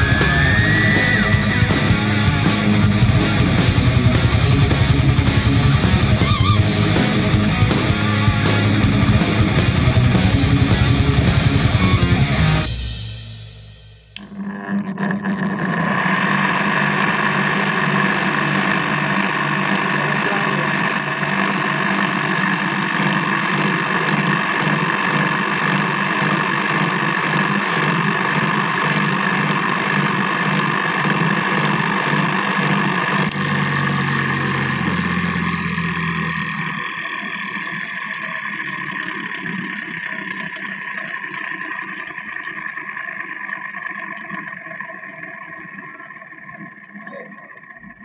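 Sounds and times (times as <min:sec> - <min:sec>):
wheel whirring down: 0:00.0 - 0:12.8, 0:14.2 - 0:47.6
grinding wheel motor humming: 0:00.0 - 0:13.0, 0:14.1 - 0:48.0.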